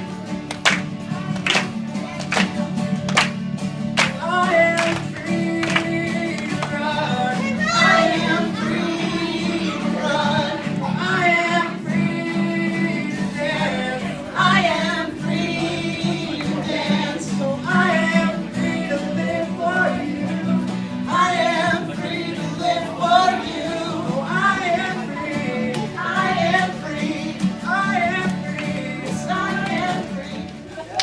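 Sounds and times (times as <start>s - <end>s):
song with singing: 0.0s - 31.0s.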